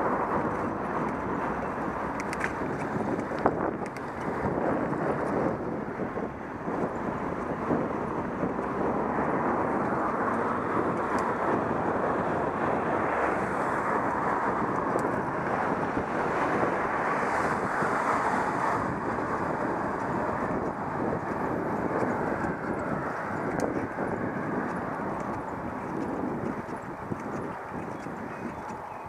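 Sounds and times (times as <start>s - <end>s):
vehicle running and road noise: 0.0s - 29.0s
wind on microphone: 0.0s - 29.0s.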